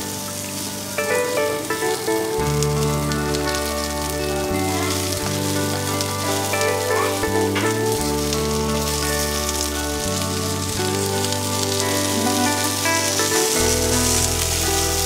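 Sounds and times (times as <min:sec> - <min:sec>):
eggplant sizzling in oil: 0:00.0 - 0:15.0
soft background music chords: 0:00.0 - 0:15.0.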